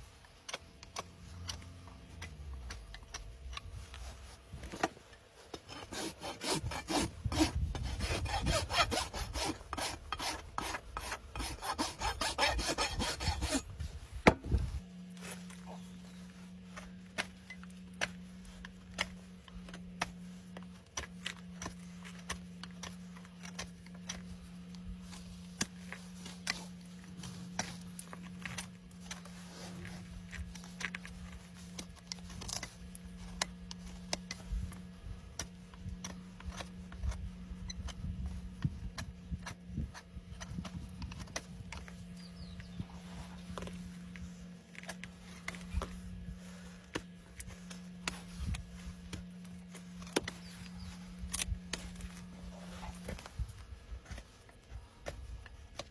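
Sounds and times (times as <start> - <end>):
steady low hum: 0.0 - 55.9
hoof trimming tools clicking: 0.2 - 13.7, 16.8 - 46.0, 46.7 - 55.9.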